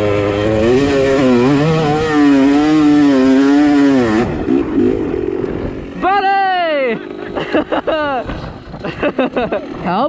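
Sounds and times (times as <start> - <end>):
dirt bike engine revving: 0.0 - 10.0
rough engine and handling noise: 0.0 - 10.0.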